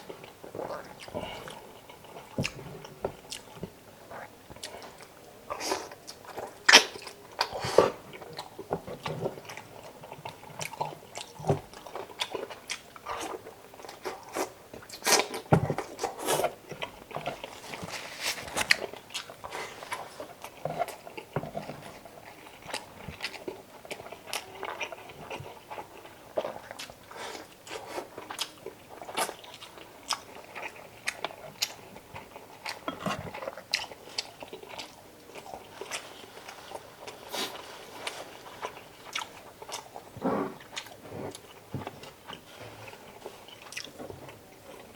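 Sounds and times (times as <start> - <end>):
person chewing and biting food: 0.0 - 44.9.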